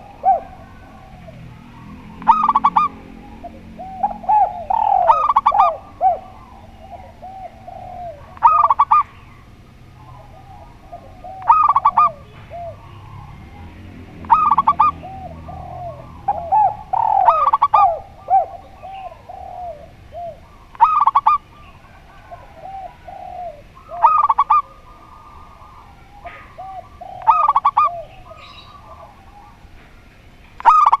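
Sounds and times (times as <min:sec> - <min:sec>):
doves cooing: 0:00.0 - 0:31.0
lower softer dove coos: 0:00.0 - 0:31.0.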